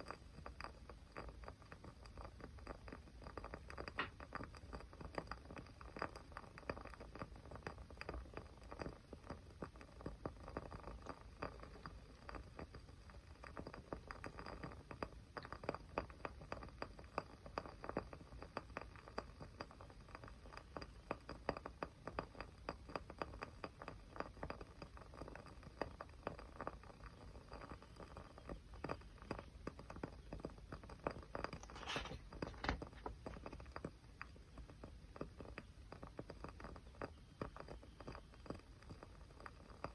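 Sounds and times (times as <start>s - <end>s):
small fire crackling: 0.0s - 39.9s.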